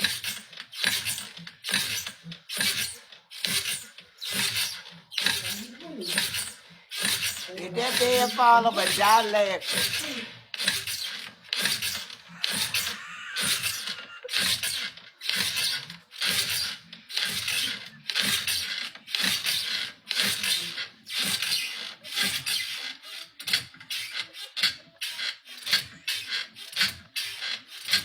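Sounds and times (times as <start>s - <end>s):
bed frame creaking: 0.0s - 28.0s.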